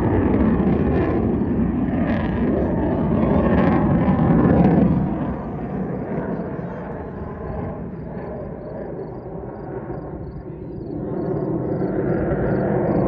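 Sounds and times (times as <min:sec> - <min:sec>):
aircraft engine rumble: 0:00.0 - 0:13.0.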